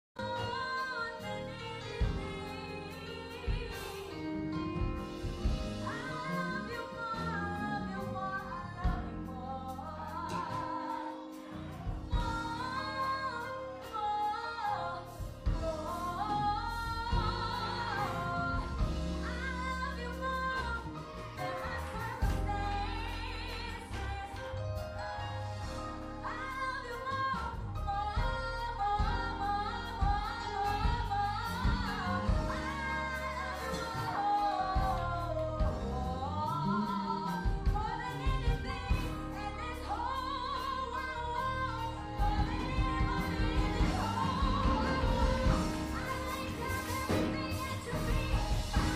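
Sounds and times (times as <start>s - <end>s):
bass: 0.0s - 48.9s
drums: 0.2s - 48.9s
person singing with vibrato: 0.2s - 48.9s.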